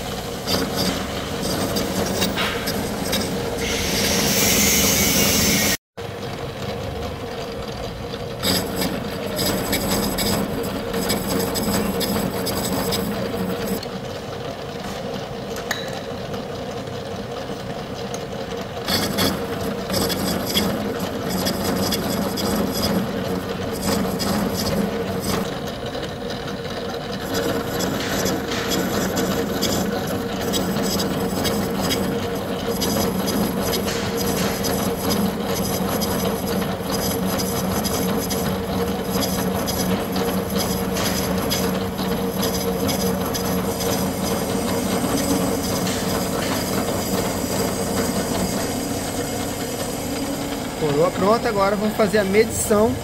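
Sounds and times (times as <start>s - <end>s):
grating of metal being cut: 0.0s - 5.8s, 8.4s - 13.8s, 18.8s - 25.8s, 27.1s - 52.8s
milling machine hum: 0.0s - 14.6s, 16.4s - 53.0s.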